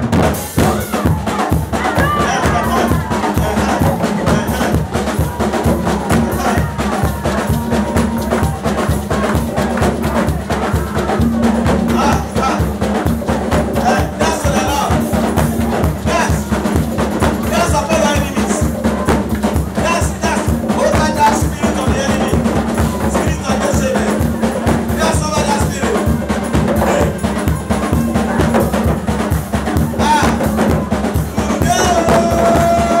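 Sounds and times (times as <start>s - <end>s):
drum kit and hand drums: 0.0s - 33.0s.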